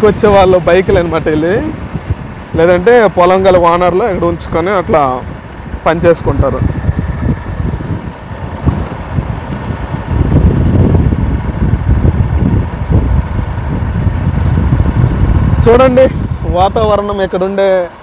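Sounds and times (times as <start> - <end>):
motorcycle engine: 0.0 - 18.0
road noise: 0.0 - 18.0
wind buffeting microphone: 0.0 - 18.0.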